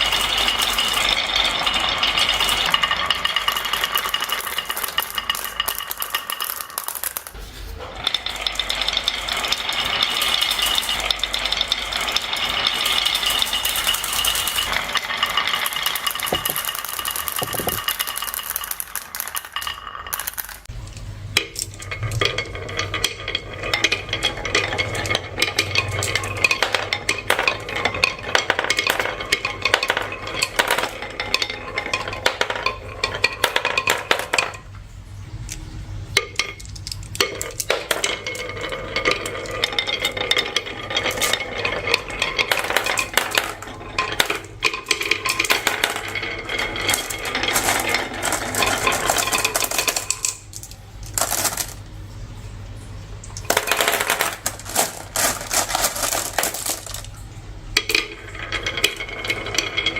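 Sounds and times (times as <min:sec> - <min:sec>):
marbles rattling down track: 0:00.0 - 0:34.8, 0:35.4 - 0:52.3, 0:53.2 - 0:59.9.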